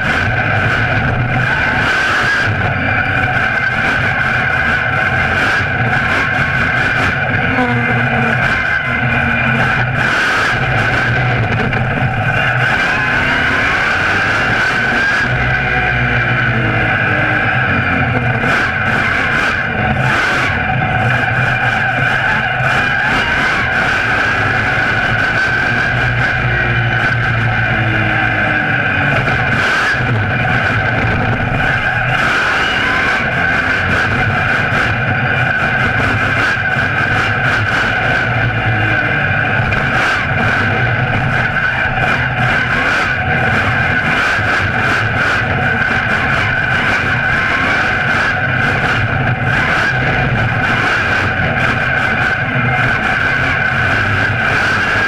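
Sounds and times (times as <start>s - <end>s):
monster truck engine running: 0.0s - 55.0s.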